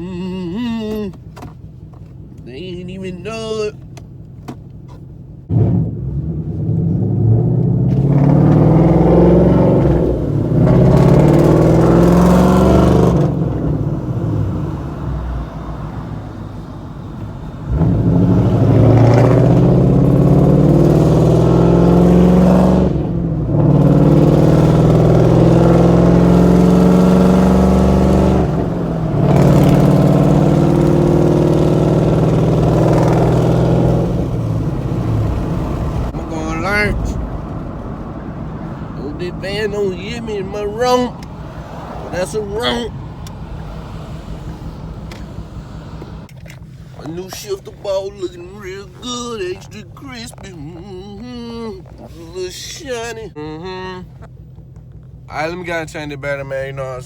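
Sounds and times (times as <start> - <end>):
car exhaust accelerating: 0.0 - 57.0.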